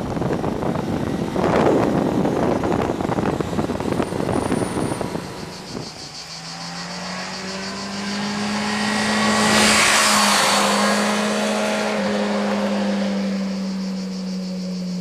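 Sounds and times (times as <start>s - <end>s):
motorcycle engine passing at high revs: 0.0s - 15.0s.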